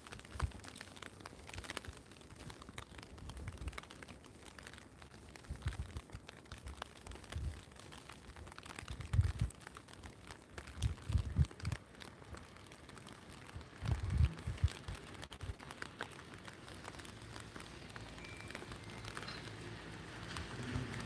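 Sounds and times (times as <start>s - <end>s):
rain on a plastic umbrella: 0.0s - 21.0s.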